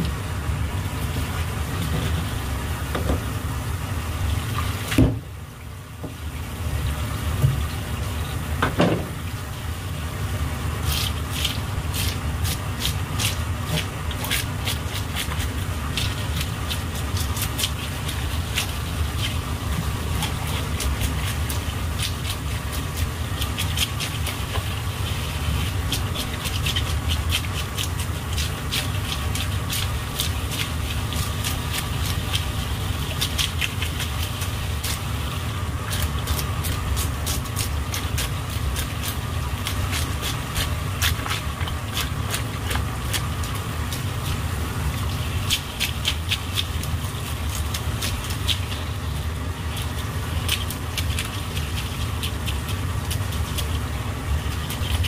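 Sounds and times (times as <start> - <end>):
tap water splashing: 2.9 - 3.3, 4.3 - 5.3, 6.0 - 6.4, 7.3 - 9.5, 10.9 - 55.0
fish scaler scraping scales: 10.8 - 55.0.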